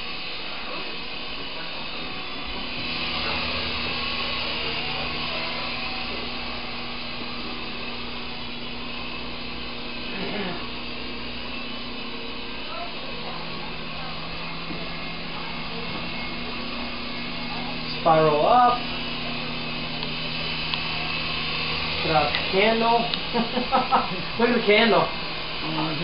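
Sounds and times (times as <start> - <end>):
toy helicopter rotors whirring: 0.0 - 26.0.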